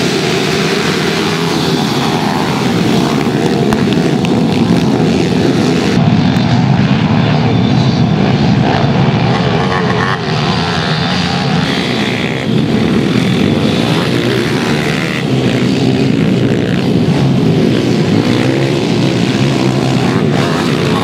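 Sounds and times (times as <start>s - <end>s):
racing motorcycle engines buzzing: 0.0s - 21.0s.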